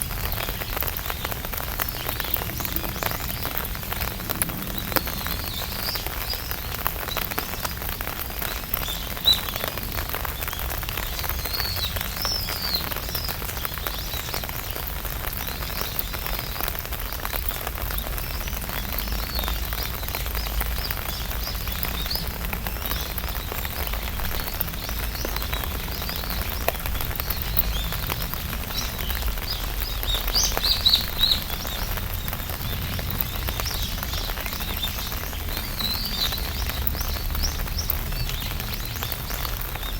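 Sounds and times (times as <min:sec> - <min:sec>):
birds chirping: 0:00.0 - 0:39.9
rain on an umbrella: 0:00.0 - 0:39.9.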